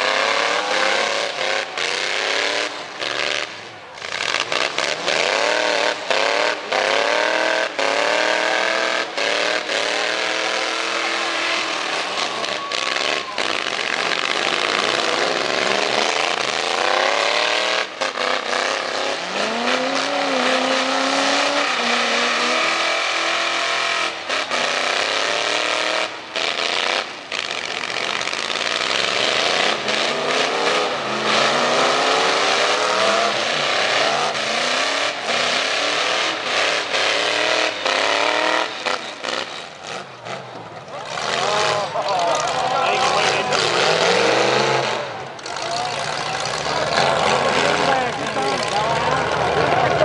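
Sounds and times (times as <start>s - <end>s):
truck engine revving: 0.0s - 50.0s.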